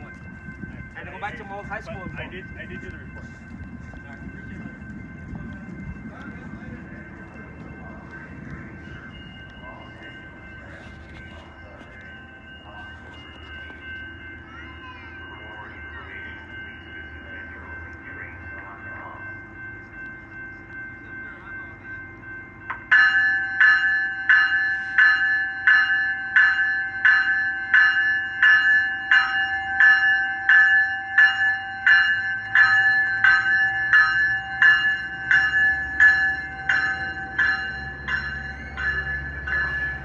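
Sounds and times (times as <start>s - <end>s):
railroad crossing bell ringing: 0.0s - 40.0s.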